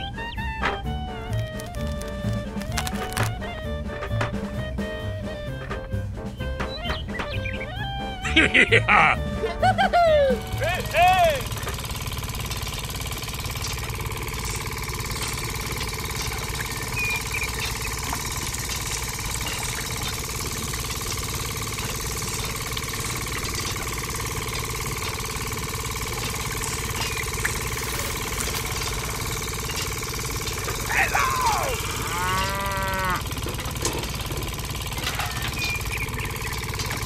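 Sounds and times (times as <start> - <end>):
small motor running with pulsing: 1.0 - 4.0, 9.2 - 37.0.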